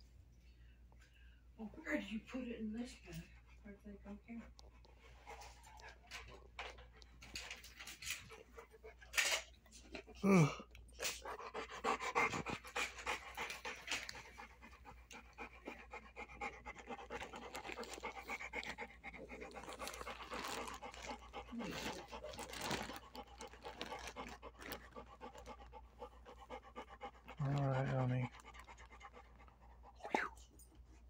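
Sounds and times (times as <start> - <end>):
large dog panting: 2.4 - 9.4, 11.0 - 30.0.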